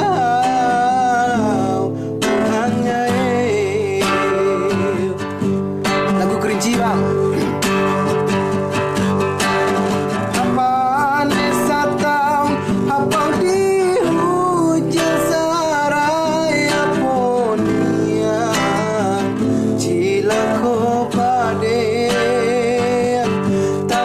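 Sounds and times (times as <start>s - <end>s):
person singing: 0.0s - 8.9s, 9.8s - 24.0s
acoustic guitar strumming: 0.0s - 24.0s.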